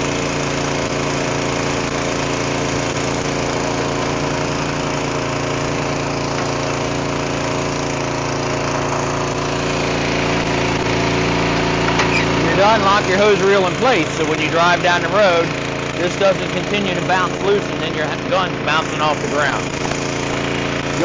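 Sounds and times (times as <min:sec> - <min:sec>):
electric hose reel winding: 0:00.0 - 0:21.0
small engine idling: 0:00.0 - 0:21.0.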